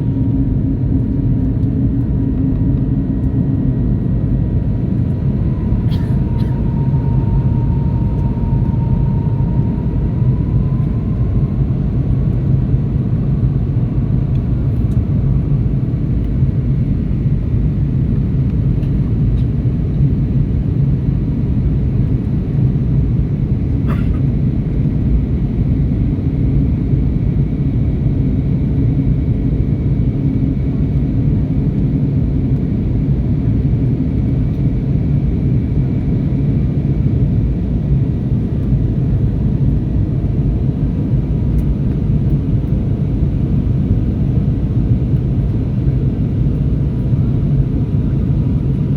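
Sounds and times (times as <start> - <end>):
faint jet engine whine: 0.0 - 48.9
jet engines low rumble: 0.0 - 48.9.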